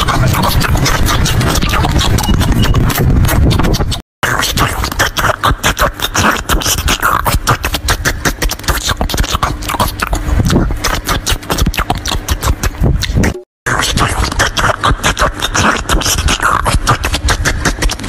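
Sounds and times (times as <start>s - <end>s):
crunching and chewing food: 0.0s - 18.0s.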